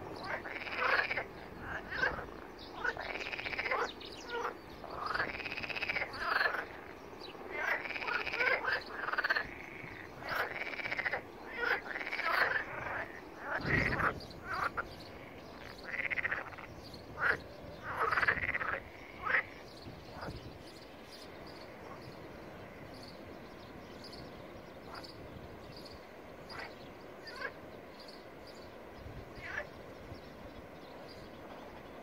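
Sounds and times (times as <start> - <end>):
frogs croaking: 0.0 - 32.0.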